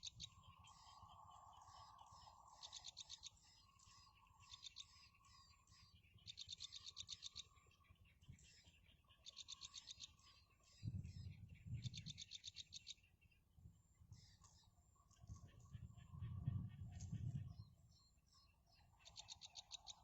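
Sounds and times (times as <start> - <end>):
bird trills: 0.0 - 13.2, 14.0 - 20.0
soft bird chirps: 0.0 - 20.0.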